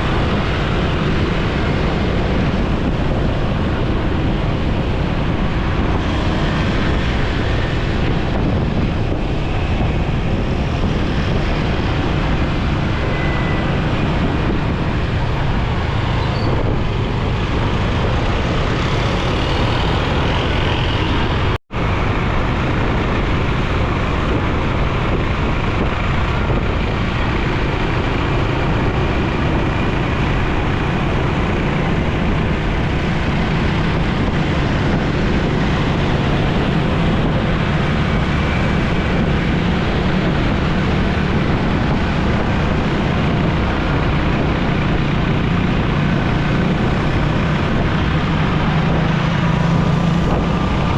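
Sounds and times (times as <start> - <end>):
city traffic: 0.0 - 50.9
motorcycle engine: 0.0 - 50.9
wind and road noise: 0.0 - 50.9.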